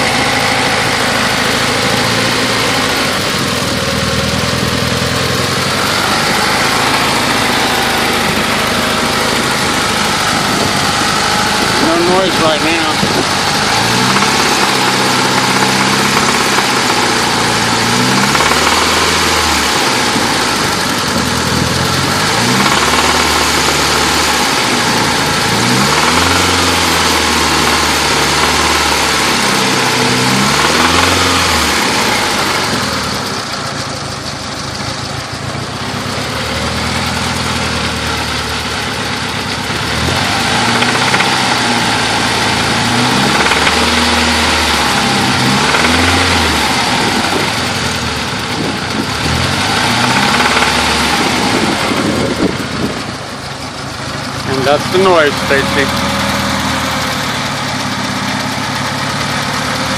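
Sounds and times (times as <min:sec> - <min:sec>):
car engine revving: 0:00.0 - 0:59.9
engine knocking: 0:00.0 - 0:59.9.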